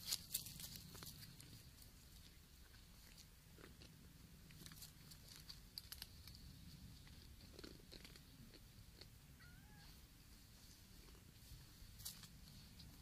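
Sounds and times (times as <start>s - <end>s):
cats clicking and crunching: 0.0s - 9.3s, 10.9s - 13.0s
low steady hum: 0.0s - 13.0s.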